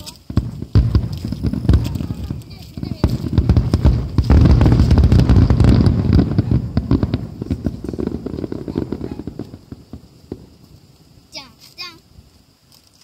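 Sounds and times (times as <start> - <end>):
fireworks bangs and crackling: 0.0 - 12.4.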